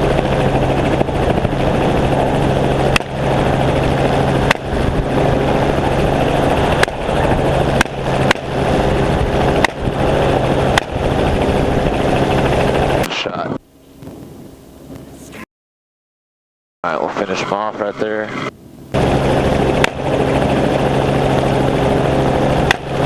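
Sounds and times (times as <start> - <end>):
helicopter flying: 0.0 - 15.4, 16.8 - 23.0.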